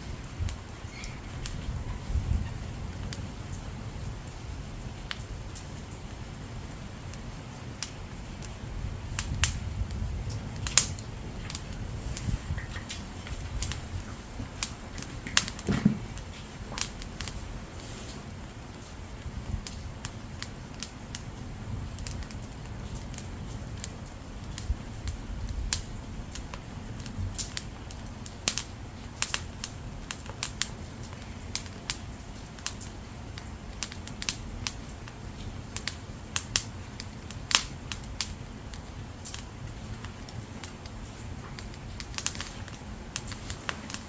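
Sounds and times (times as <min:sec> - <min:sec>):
firewood crackling and popping: 0:00.0 - 0:44.0
low rumble of flame: 0:00.0 - 0:44.0.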